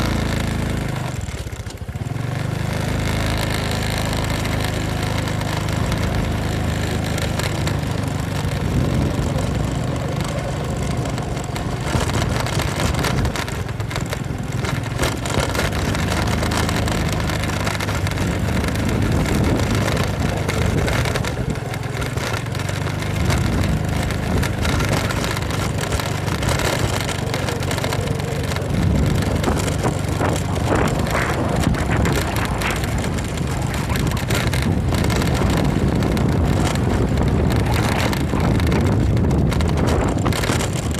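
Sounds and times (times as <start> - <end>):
motorcycle engine revving: 0.0 - 40.9
wind noise on microphone: 0.0 - 40.9.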